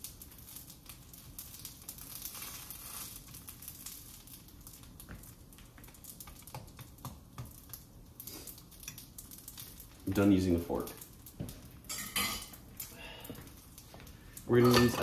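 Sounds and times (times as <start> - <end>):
faint sizzle with crackles: 0.0 - 15.0
wrap frying in oil: 0.0 - 15.0.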